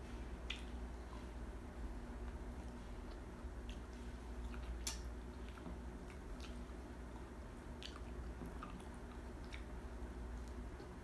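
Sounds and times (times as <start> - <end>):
steady low hum: 0.0 - 11.0
chewing with wet mouth sounds: 0.3 - 1.3, 2.2 - 11.0.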